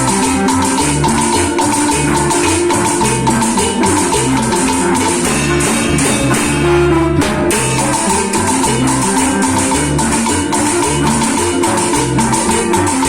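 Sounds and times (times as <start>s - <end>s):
bass line: 0.0s - 13.0s
plucked guitar: 0.0s - 13.0s
drums: 0.1s - 13.0s.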